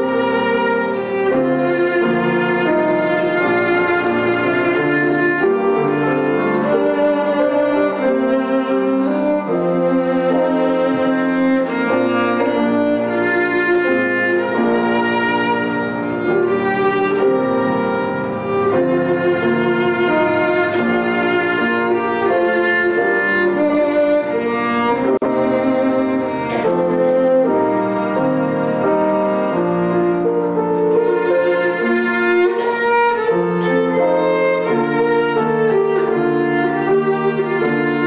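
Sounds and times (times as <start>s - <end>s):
piano: 0.0s - 38.0s
violin melody: 0.0s - 38.0s.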